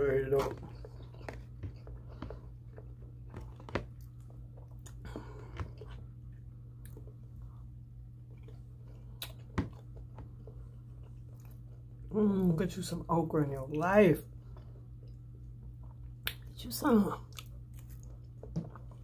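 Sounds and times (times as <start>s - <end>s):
person chewing food: 0.0s - 12.1s, 13.6s - 19.0s
steady low hum: 0.0s - 19.0s.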